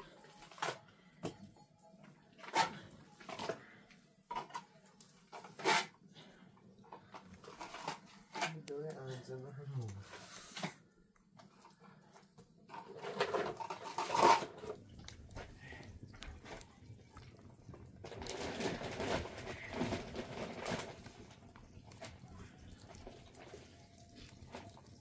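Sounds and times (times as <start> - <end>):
plaster scraping and squelching: 2.3 - 25.0.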